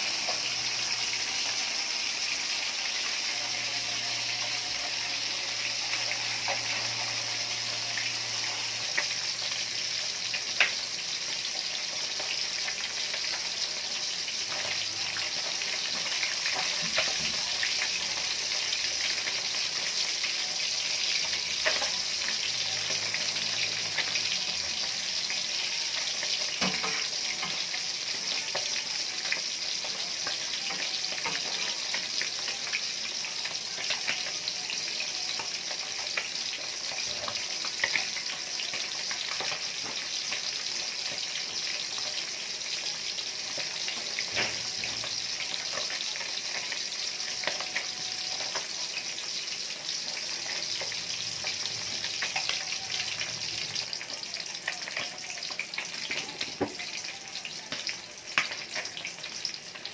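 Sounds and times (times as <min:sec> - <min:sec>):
fish sizzling in oil: 0:00.0 - 0:59.9.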